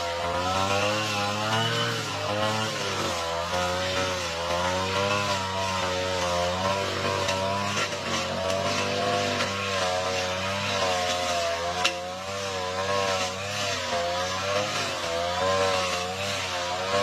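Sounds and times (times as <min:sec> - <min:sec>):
lawn mower engine cutting grass: 0:00.0 - 0:17.0.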